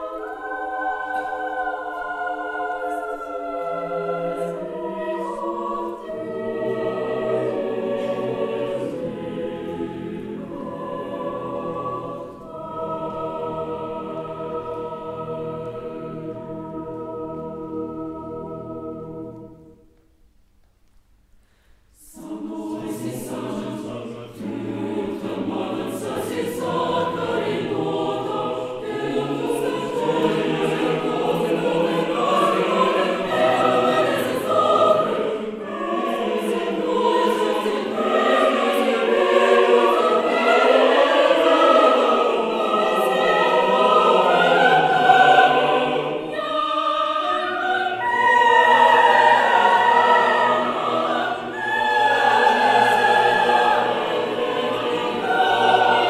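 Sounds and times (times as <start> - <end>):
mixed choir singing: 0.0 - 19.9, 22.0 - 56.0.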